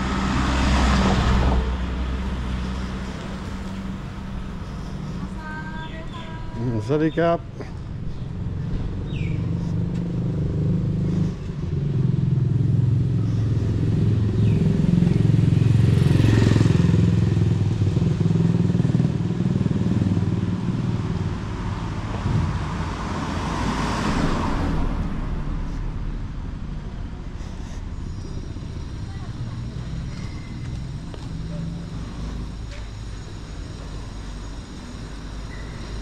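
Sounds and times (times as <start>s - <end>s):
street traffic engine hum: 0.0s - 36.0s
vehicles passing close by: 0.0s - 36.0s.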